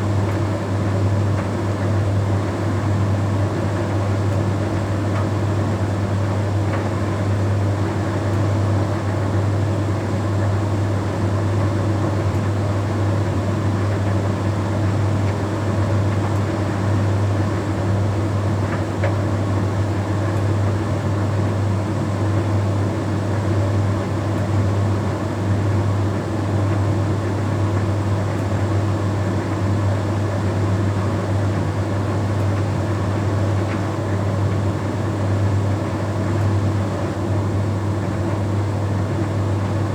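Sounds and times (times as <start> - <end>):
tumble dryer drum whirring: 0.0 - 39.9.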